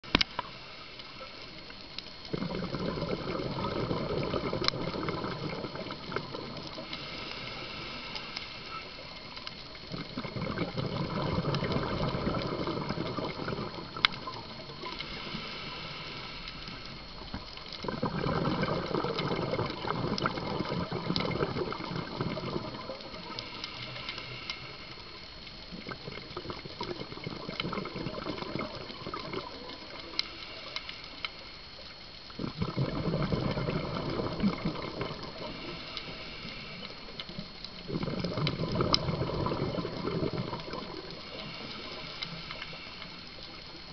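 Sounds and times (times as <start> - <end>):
steady regulator hiss: 0.0 - 43.9
exhaled bubbles underwater: 1.2 - 43.9.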